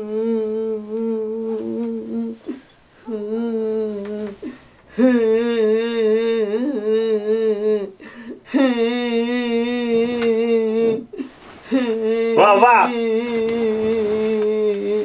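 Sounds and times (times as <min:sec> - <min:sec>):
woman humming: 0:00.0 - 0:15.0.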